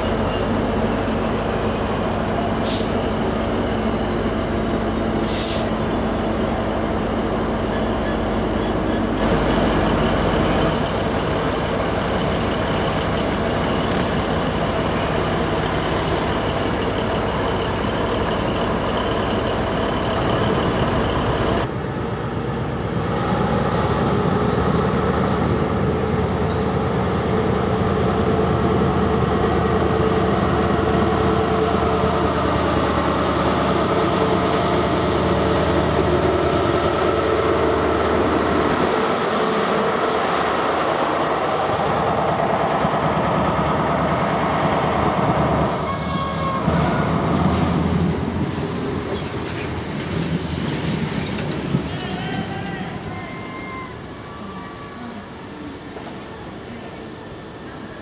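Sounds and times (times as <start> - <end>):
diesel train engine passing: 0.0 - 58.0
freight train rolling past: 0.0 - 58.0.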